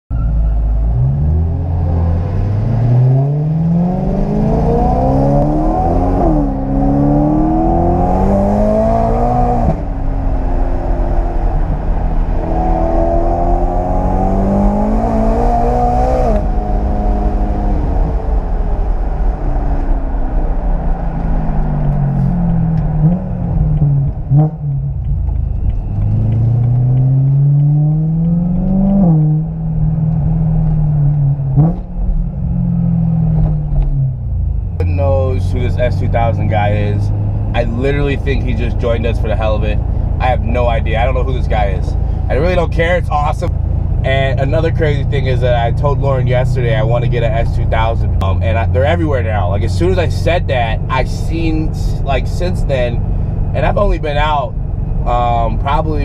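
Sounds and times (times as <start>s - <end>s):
car engine accelerating: 0.1s - 56.0s.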